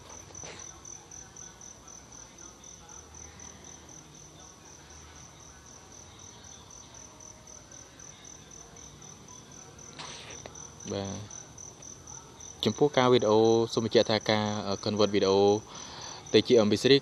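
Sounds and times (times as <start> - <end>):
faint background noise: 0.0 - 17.0
insect chirping trill: 0.0 - 17.0.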